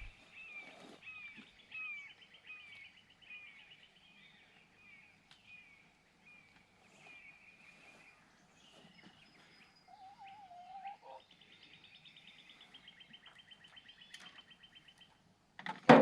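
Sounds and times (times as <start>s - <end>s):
bird chirping: 0.0s - 15.2s.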